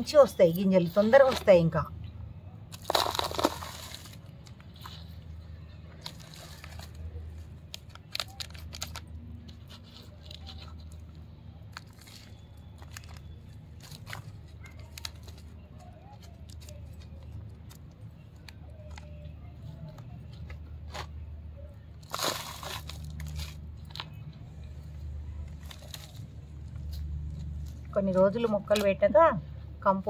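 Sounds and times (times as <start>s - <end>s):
coco peat crumbling and crunching: 2.6s - 28.9s.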